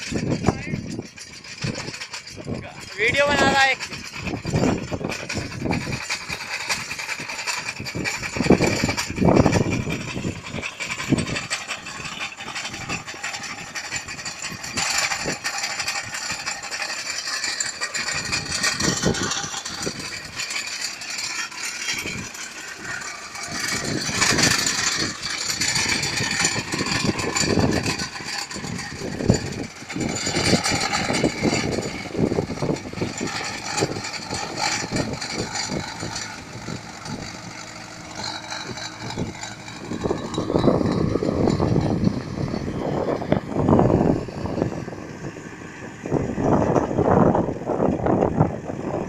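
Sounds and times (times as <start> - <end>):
digger machinery rattling and clanking: 0.0 - 49.0
tractor engine running: 0.0 - 49.0.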